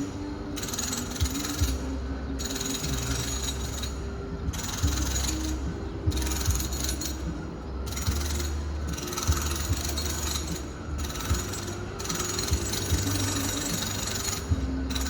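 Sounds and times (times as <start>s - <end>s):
distant power tool running: 0.0s - 15.0s
low machine hum: 0.0s - 15.0s.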